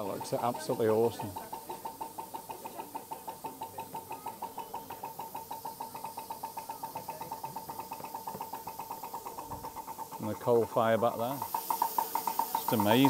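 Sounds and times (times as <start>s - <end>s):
steam locomotive rhythmic knocking: 0.0s - 13.0s.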